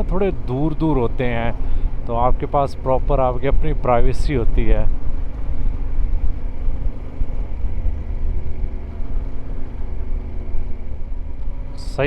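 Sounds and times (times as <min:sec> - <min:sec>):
heavy low rumble: 0:00.0 - 0:12.0
motorcycle engine running: 0:00.0 - 0:12.0.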